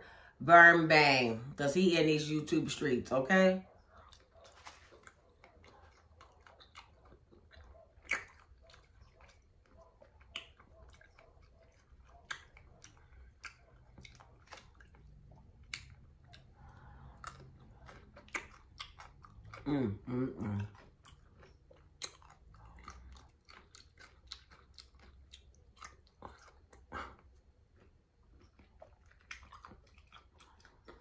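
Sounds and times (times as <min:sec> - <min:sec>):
chewing crunchy pickles: 0:03.6 - 0:31.0.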